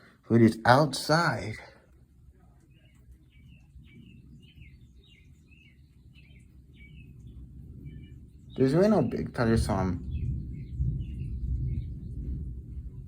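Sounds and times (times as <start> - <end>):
songbird chirping faintly: 0.0 - 13.0
low steady rumble: 1.5 - 13.0.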